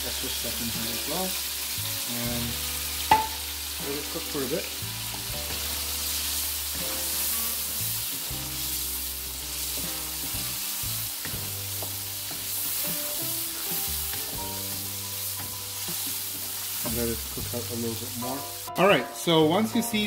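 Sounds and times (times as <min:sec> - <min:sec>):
background music: 0:00.0 - 0:20.0
curry sizzling in oil: 0:00.0 - 0:20.0.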